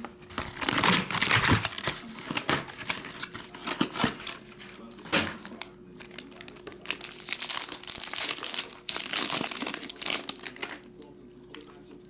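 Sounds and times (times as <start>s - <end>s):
foil pack tearing: 0.0s - 10.9s
foil wrapper crinkling: 0.0s - 10.9s.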